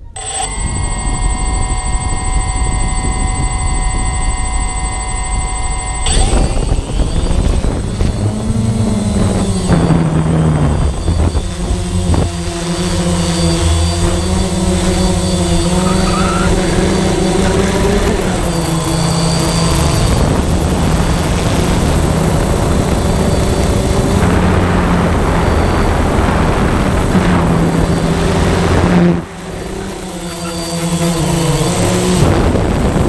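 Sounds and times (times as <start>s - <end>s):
drone propellers whining: 0.0s - 33.0s.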